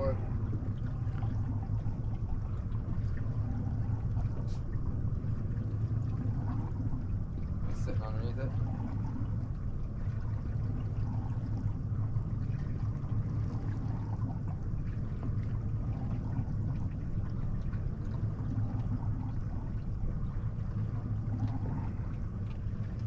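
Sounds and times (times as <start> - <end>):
boat motor idling: 0.0 - 23.0
water lapping against hull: 0.0 - 23.0.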